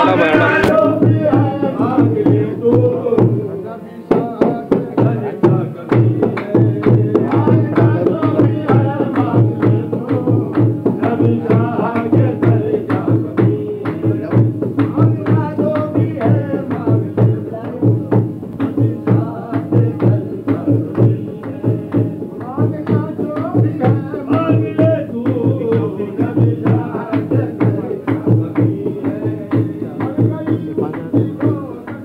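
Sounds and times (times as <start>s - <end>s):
devotional singing: 0.0s - 32.0s
hand drum beat: 0.0s - 32.0s.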